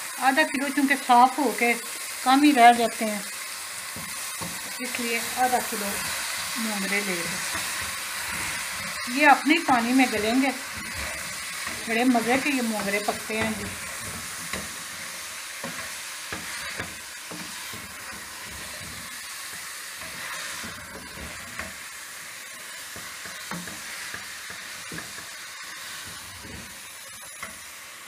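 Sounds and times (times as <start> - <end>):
food sizzling in a pot: 0.0 - 28.0
wooden spoon scraping a pan: 2.0 - 27.9.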